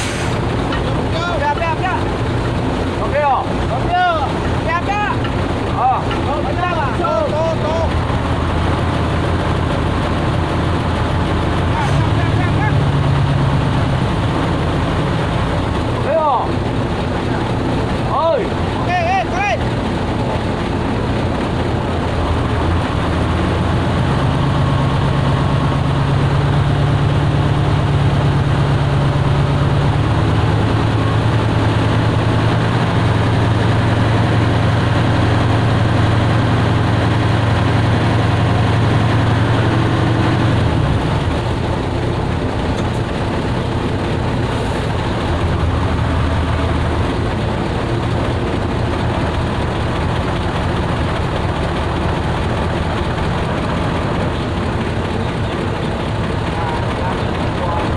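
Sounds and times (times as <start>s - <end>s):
boat engine humming: 0.0s - 57.9s.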